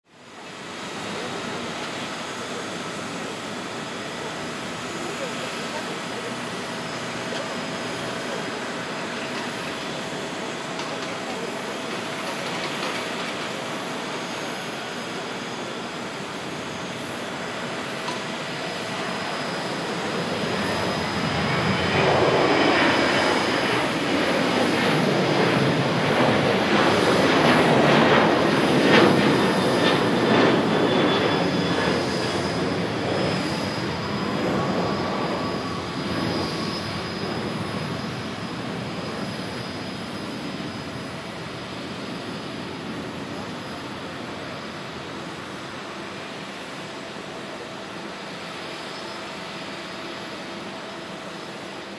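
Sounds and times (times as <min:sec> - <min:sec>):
jet engines spooling up: 0:00.5 - 0:51.9.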